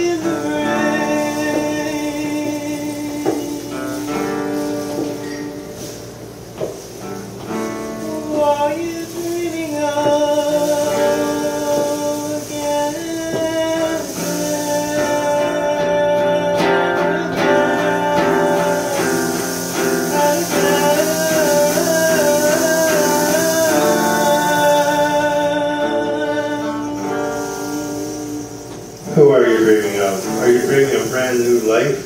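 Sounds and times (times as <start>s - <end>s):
guitar playing chords: 0.0s - 32.0s.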